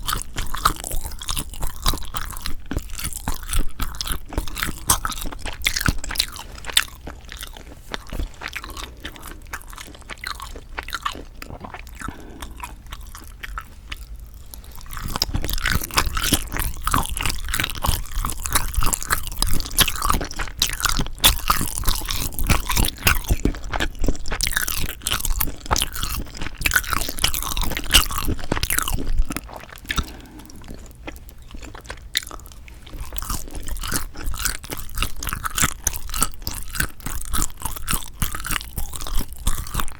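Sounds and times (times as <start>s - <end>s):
person chewing with clicking: 0.0s - 39.9s.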